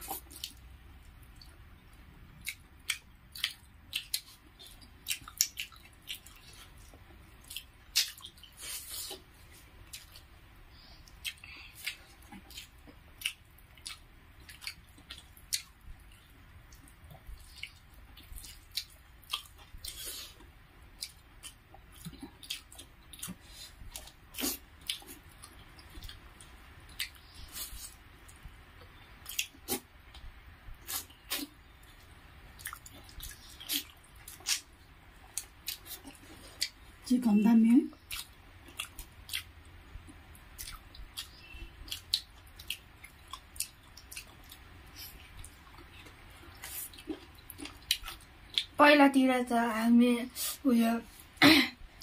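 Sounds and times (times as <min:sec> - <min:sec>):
wet smacks and chewing: 0:00.0 - 0:37.0, 0:37.9 - 0:48.8.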